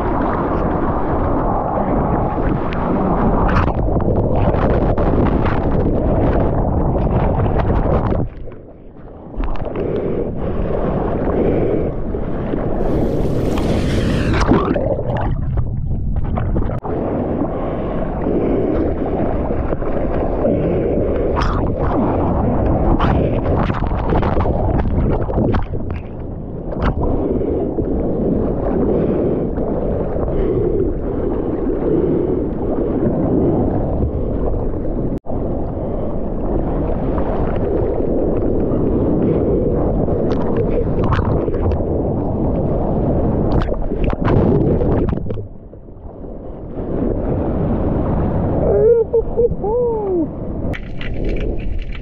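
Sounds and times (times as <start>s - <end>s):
sea water splashing and gurgling: 0.0s - 52.0s.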